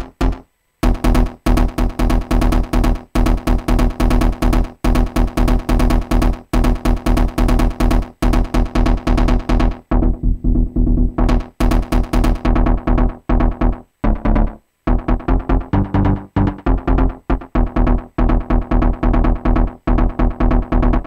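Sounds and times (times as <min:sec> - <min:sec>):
chopped synthesizer chords: 0:00.0 - 0:21.0
steady low kick drum: 0:00.0 - 0:21.0.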